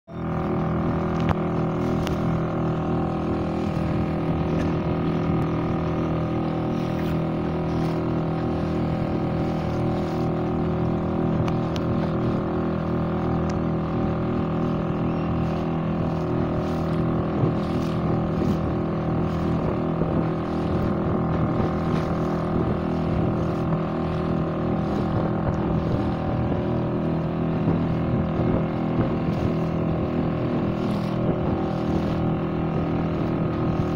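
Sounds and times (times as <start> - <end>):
motorboat engine running: 0.1 - 33.9.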